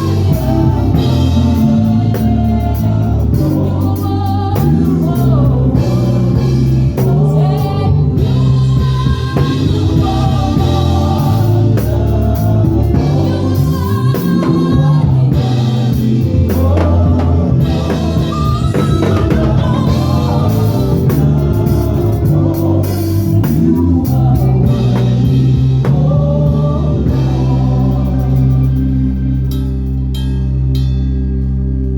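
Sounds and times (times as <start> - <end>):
people singing: 0.0 - 29.9
gospel band playing: 0.0 - 31.9.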